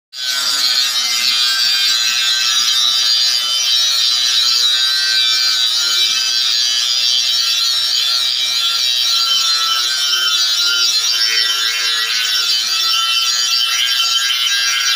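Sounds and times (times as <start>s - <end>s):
grinder grinding steel: 0.2s - 14.9s.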